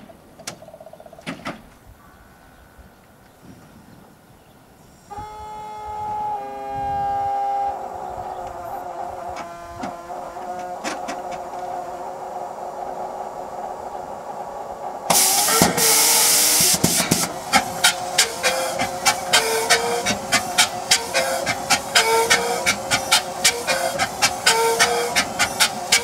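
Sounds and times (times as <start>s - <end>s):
rush of hissing air: 4.8s - 26.0s
helicopter engine whine: 5.1s - 26.0s.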